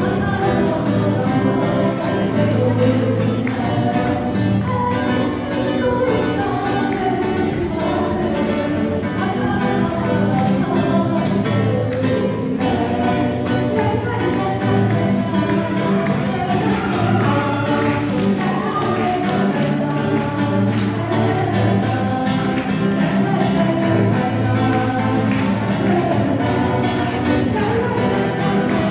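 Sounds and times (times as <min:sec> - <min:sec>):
song with singing voices: 0:00.0 - 0:28.9.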